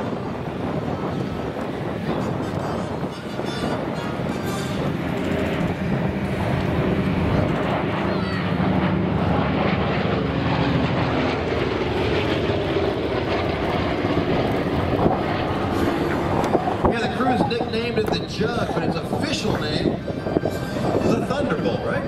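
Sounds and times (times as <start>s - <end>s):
propeller planes flying by: 0.0s - 22.0s.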